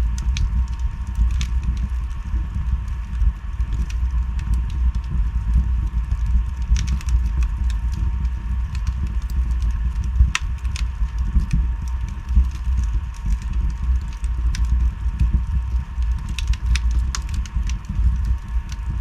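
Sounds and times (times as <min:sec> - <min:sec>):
fire flames rumbling: 0:00.0 - 0:19.0
logs crackling and popping: 0:00.0 - 0:19.0.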